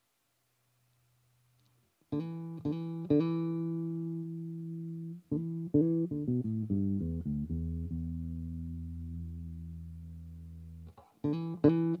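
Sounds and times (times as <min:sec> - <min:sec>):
electric bass notes: 0:02.1 - 0:12.0.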